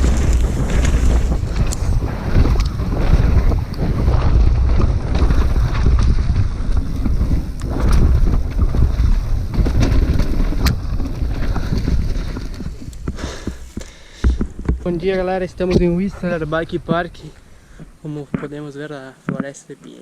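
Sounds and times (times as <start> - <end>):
low rumble: 0.0 - 18.0
wind buffeting microphone: 0.0 - 18.7
bike clattering over rough ground: 0.0 - 19.6.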